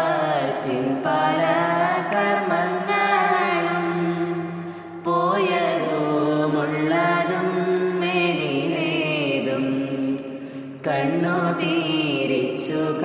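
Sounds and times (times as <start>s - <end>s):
slow chant-like hymn singing: 0.0s - 13.0s.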